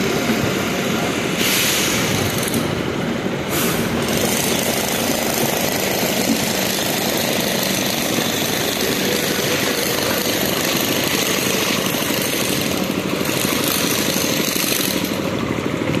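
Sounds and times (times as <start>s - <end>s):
diesel generators running: 0.0s - 16.0s.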